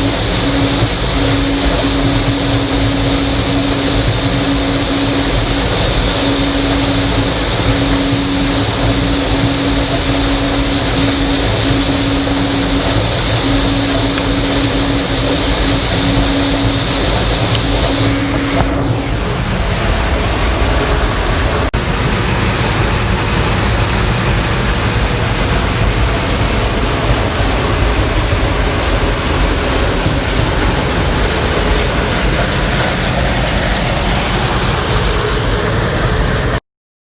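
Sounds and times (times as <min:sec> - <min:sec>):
combine harvester running: 0:00.0 - 0:36.6.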